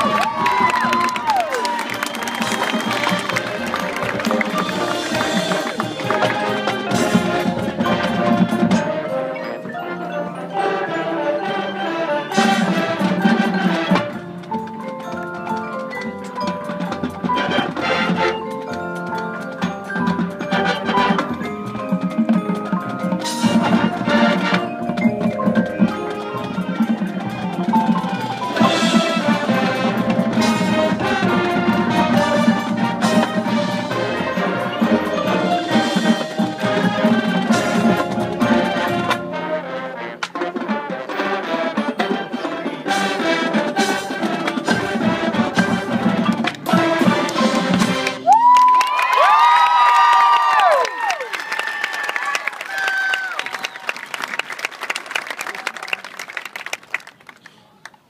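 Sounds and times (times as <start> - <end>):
mallet percussion: 0.0 - 39.6, 40.2 - 48.4
marching band playing: 0.0 - 57.1.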